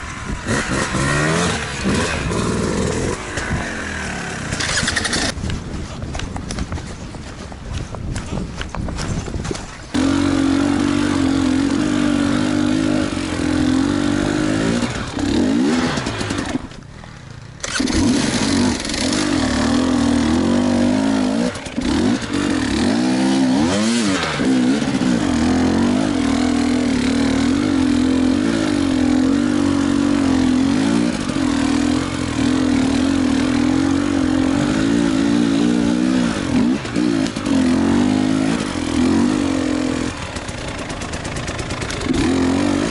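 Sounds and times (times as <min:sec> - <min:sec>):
motorcycle engine revving: 0:00.0 - 0:05.5, 0:09.0 - 0:42.9.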